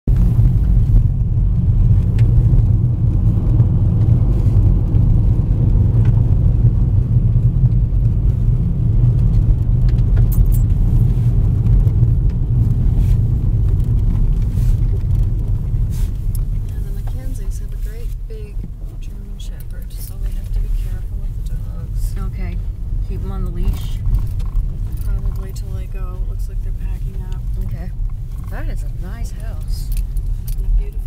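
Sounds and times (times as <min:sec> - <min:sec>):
car driving on gravel: 0:00.0 - 0:31.0.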